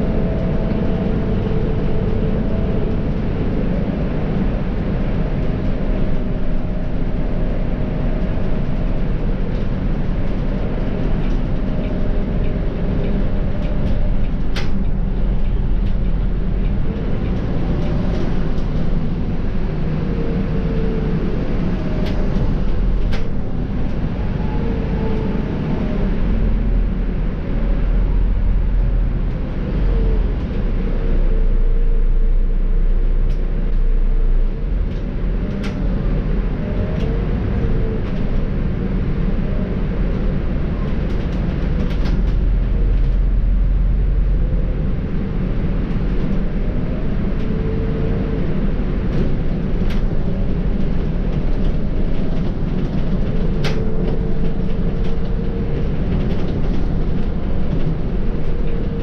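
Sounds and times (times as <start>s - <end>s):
bus diesel engine rumble: 0.0s - 59.0s
road noise: 0.0s - 59.0s.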